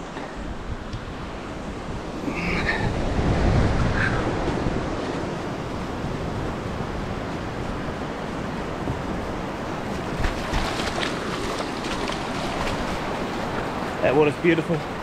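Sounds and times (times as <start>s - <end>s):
wind on microphone: 0.0s - 14.0s
surf washing onto beach: 0.0s - 15.0s.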